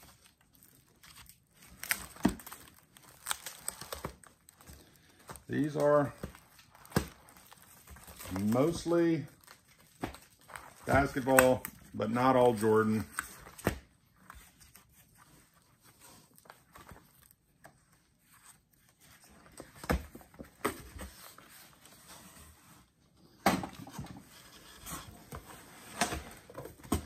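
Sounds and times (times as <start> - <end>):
plastic pages rustling: 0.0 - 22.0.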